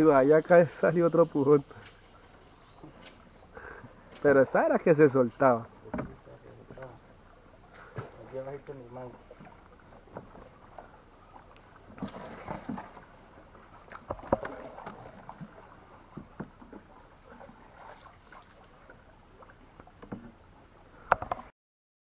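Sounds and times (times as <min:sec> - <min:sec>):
knocks and clatter in wooden canoe: 0:01.4 - 0:21.5.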